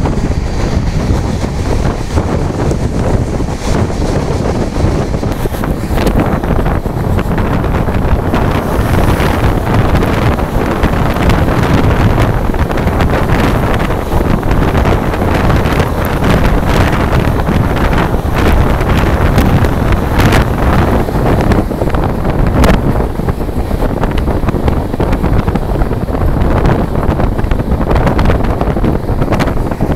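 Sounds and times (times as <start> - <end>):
train passing at speed: 0.0 - 29.9
wind buffeting microphone: 0.0 - 29.9.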